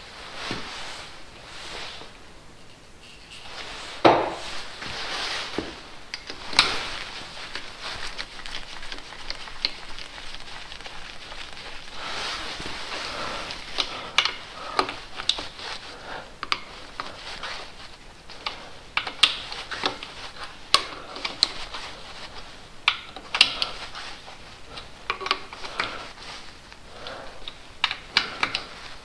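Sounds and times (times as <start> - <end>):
gloved hands rustling: 0.0 - 29.0.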